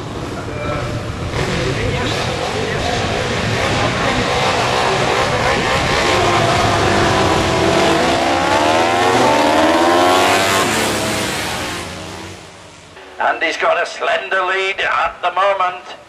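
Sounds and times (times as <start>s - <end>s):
racing motorcycles at full throttle: 0.0s - 13.0s.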